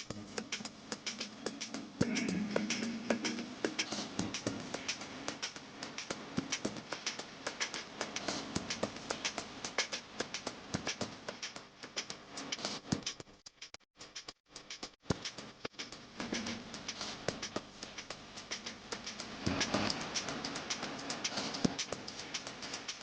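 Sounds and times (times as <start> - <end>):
small rapid taps and clicks: 0.0 - 23.0.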